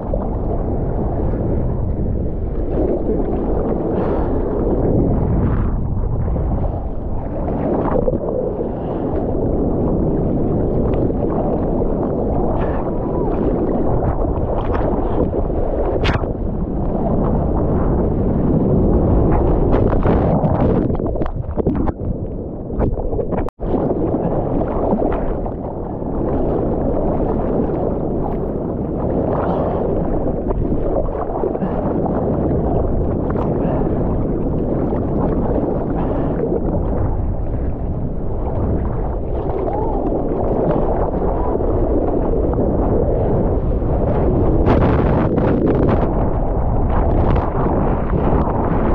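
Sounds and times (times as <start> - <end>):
muffled water rushing and sloshing: 0.0 - 48.9.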